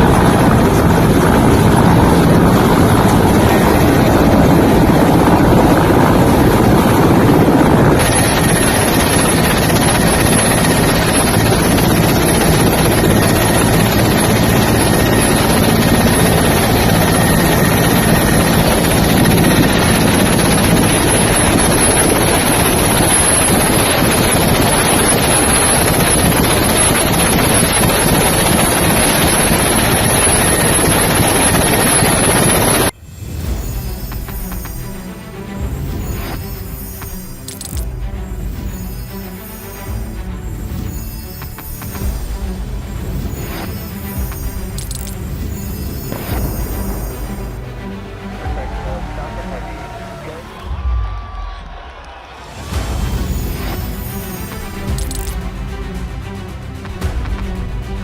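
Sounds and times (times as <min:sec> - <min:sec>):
loud engine drone: 0:00.0 - 0:50.7.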